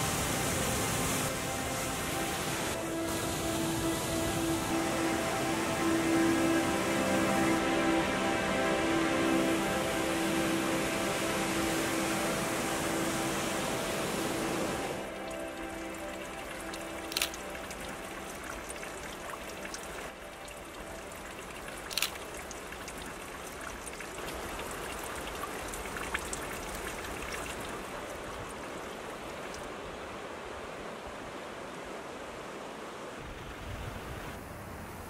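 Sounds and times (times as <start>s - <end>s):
water trickling: 0.0s - 32.9s
stream rushing: 0.0s - 35.0s.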